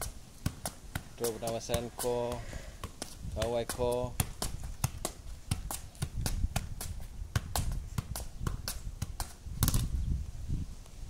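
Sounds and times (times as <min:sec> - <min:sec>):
football taps: 0:00.0 - 0:09.9.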